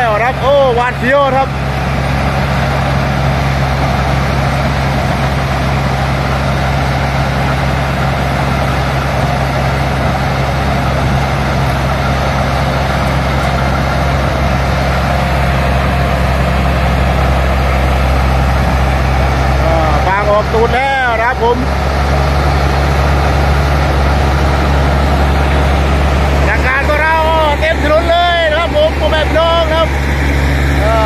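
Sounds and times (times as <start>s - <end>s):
combine harvester engine running: 0.0s - 31.0s.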